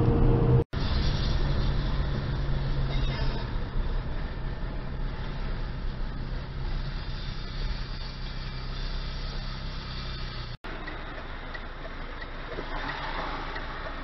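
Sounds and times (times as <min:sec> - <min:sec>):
car engine hum and road noise: 0:00.0 - 0:14.0.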